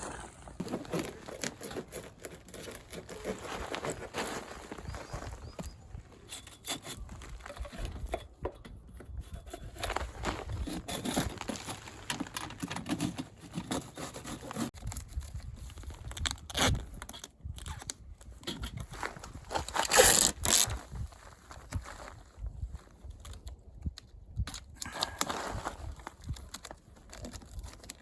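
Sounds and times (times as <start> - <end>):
scraping and tearing: 0.0 - 8.3, 9.2 - 23.5.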